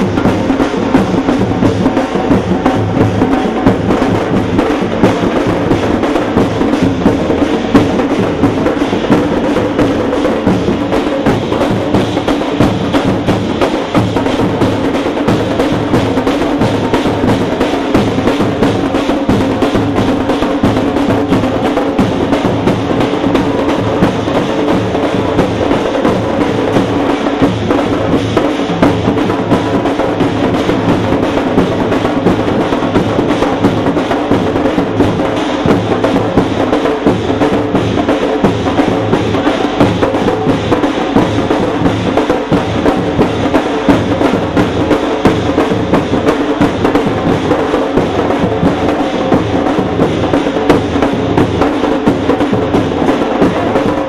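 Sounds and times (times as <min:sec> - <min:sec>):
fast loud drumming: 0:00.0 - 0:54.0.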